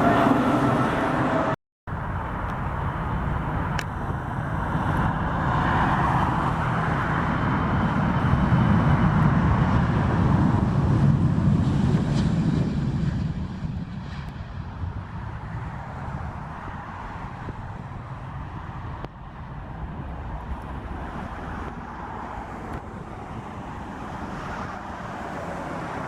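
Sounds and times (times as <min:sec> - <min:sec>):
jet aircraft engine rumble: 0:00.0 - 0:26.0.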